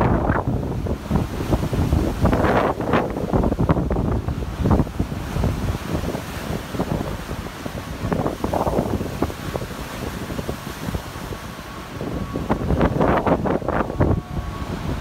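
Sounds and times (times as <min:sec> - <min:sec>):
surf breaking: 0:00.0 - 0:15.0
wind buffeting microphone: 0:00.0 - 0:15.0.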